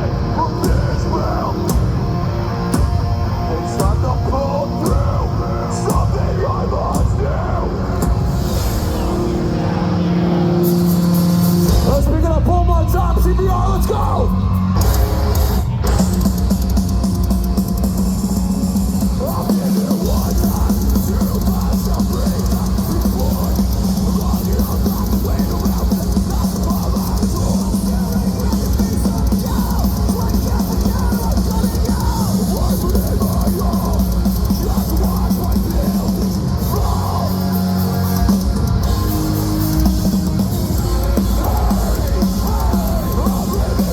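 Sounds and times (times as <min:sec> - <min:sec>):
metal band playing live: 0:00.0 - 0:43.9.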